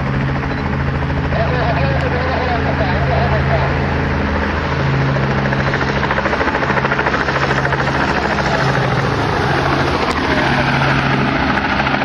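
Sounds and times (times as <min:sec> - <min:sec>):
aircraft engine pulsing: 0:00.0 - 0:12.0.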